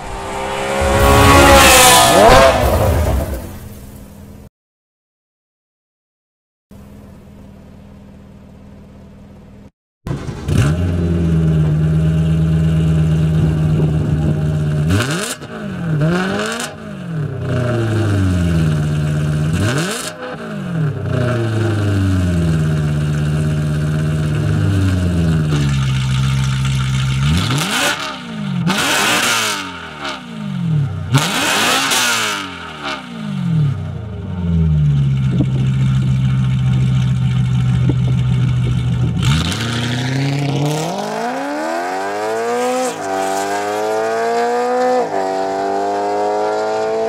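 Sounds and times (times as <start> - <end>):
car engine revving: 0.0 - 3.8, 10.1 - 47.0.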